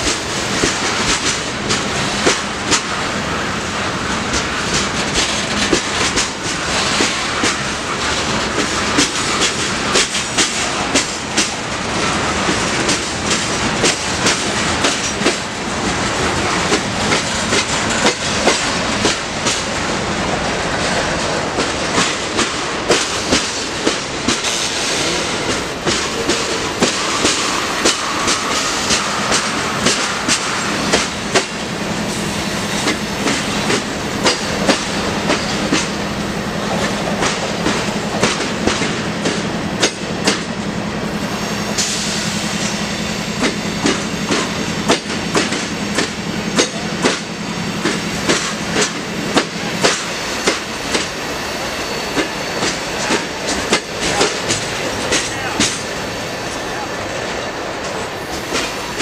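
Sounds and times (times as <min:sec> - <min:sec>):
rolling rumble of railroad cars: 0:00.0 - 0:59.0
train wheels clacking over rail joints: 0:00.0 - 0:59.0.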